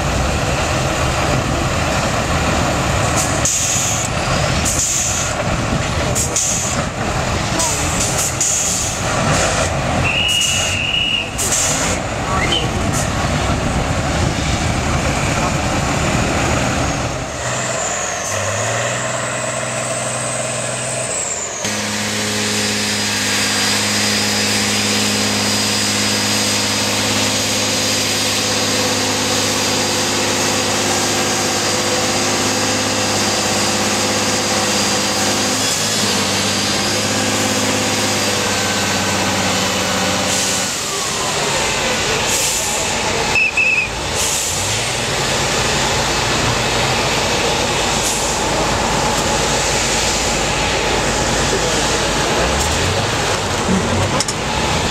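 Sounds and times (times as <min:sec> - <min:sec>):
diesel truck engine under load: 0:00.0 - 0:54.9.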